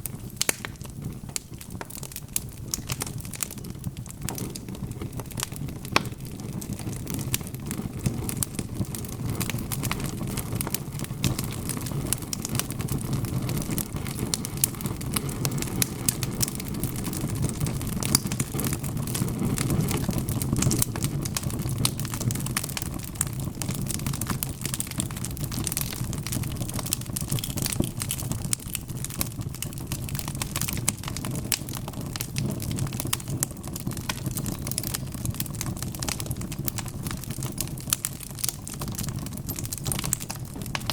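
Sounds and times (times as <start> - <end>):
fire pops and snaps: 0.0 - 40.9
low rumble of burning: 0.0 - 40.9
wood fire crackling: 0.0 - 40.9.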